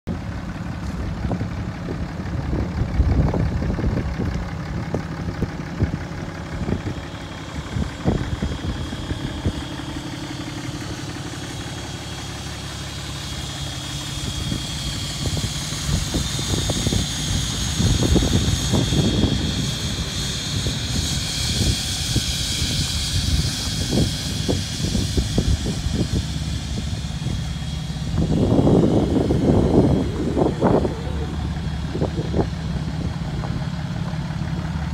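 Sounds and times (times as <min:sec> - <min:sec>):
diesel engine idling: 0:00.1 - 0:34.9
wind rumbling on microphone: 0:00.7 - 0:10.0, 0:14.0 - 0:34.9.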